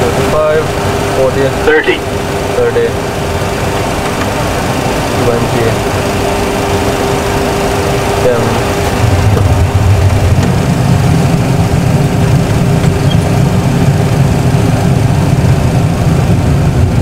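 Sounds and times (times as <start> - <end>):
aircraft engine and runway rumble: 0.0 - 17.0.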